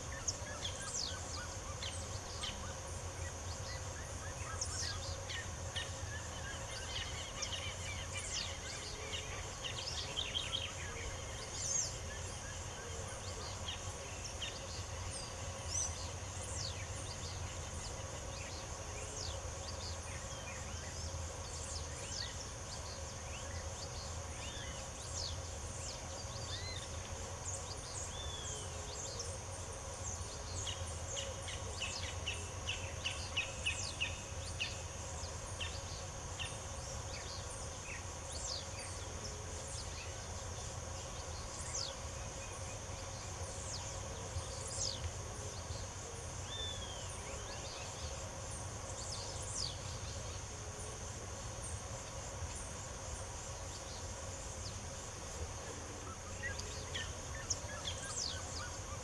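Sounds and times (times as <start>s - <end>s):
high insect buzz: 0.0s - 59.0s.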